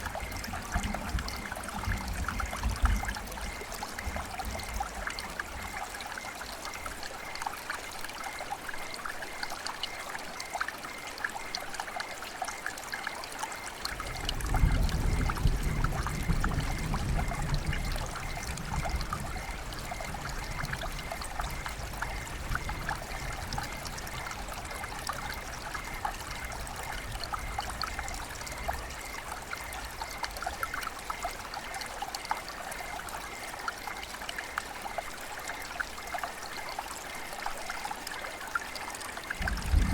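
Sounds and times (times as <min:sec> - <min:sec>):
flowing water trickling: 0:00.0 - 0:39.9
rain dripping: 0:00.0 - 0:39.9.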